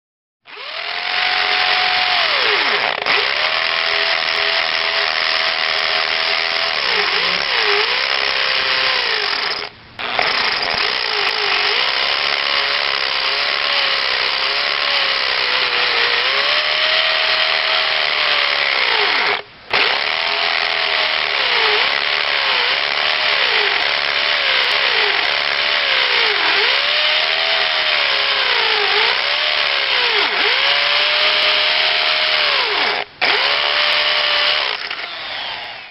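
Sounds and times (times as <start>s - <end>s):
hammer drill drilling: 0.5s - 35.9s.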